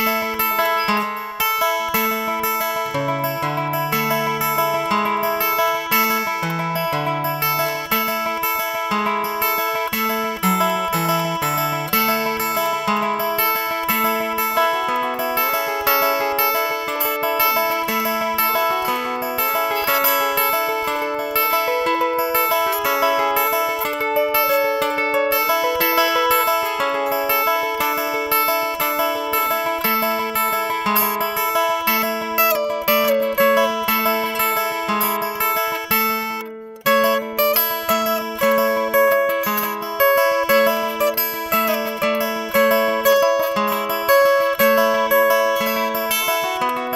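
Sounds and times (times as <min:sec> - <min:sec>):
acoustic guitar instrumental: 0:00.0 - 0:46.9.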